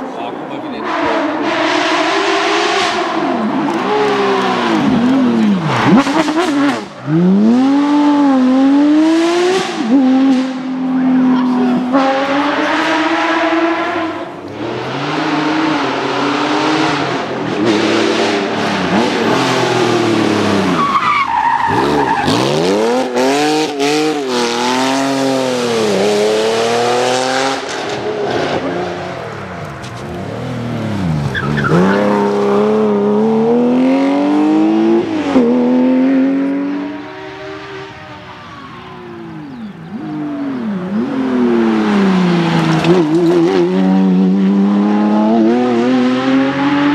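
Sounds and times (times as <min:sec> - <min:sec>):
rally car engine at full throttle: 0:00.0 - 0:46.9.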